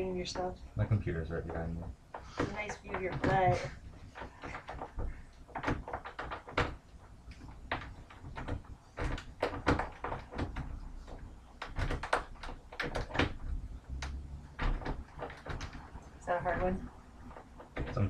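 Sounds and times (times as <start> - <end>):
door hardware rattling: 1.9 - 18.0.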